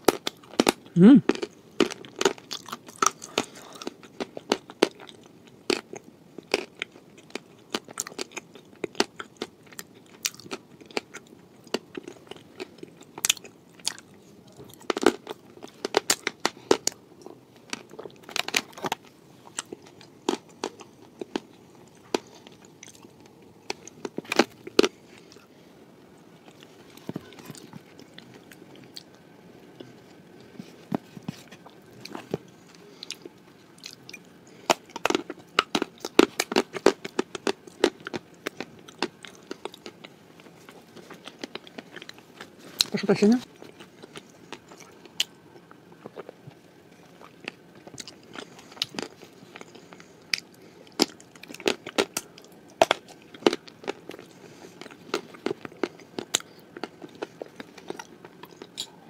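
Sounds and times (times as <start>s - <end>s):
crisp cookie crunches: 0.0s - 25.5s, 26.4s - 59.0s.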